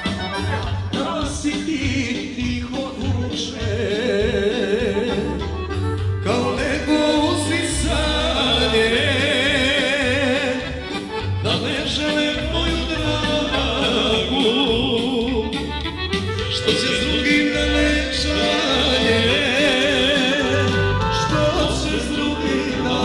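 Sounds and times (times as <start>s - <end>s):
person singing: 0.0s - 5.6s, 6.2s - 23.0s
folk music melody with bass beat: 0.0s - 23.0s.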